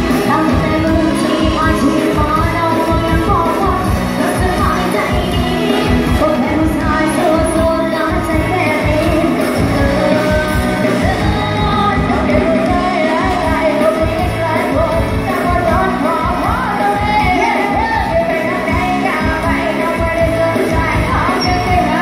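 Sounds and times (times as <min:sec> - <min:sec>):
live band music with singer: 0:00.0 - 0:22.0.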